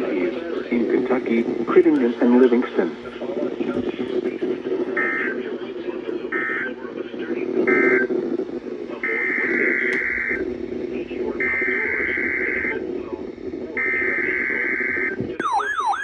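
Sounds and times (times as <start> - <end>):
radio hum and static: 0.0 - 16.0.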